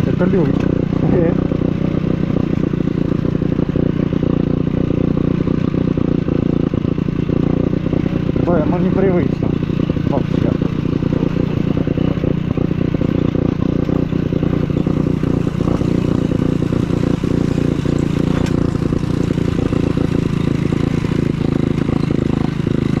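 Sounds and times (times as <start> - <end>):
scooter engine running: 0.0 - 23.0.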